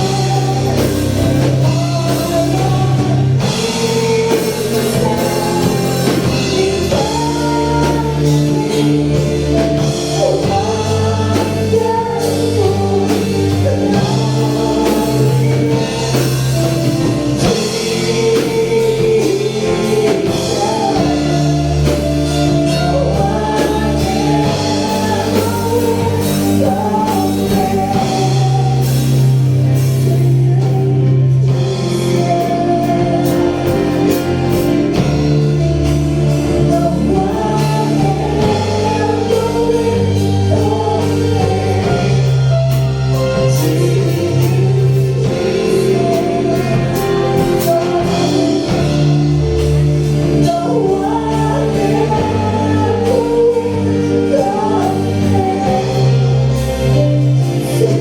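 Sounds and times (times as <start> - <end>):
worship song with band: 0.0 - 58.0.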